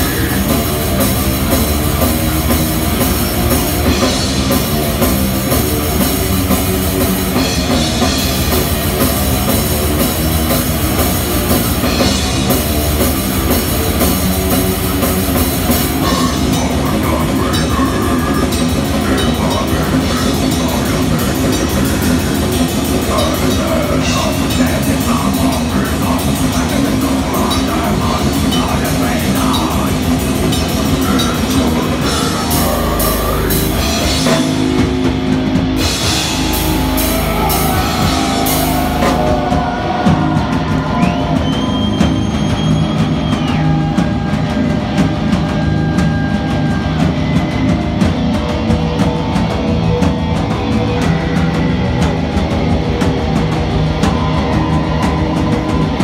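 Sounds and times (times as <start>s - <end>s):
distorted electric guitar: 0.0s - 56.0s
fast drum kit: 0.0s - 56.0s.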